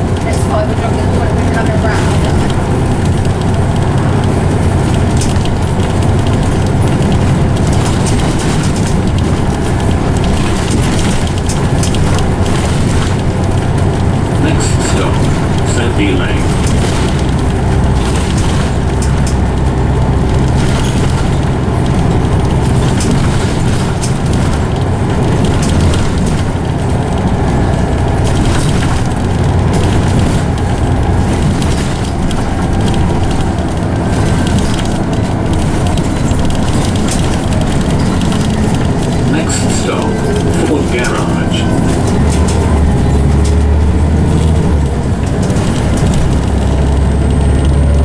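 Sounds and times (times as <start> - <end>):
bus engine drone: 0.0 - 48.0
gearbox whine: 0.0 - 48.0.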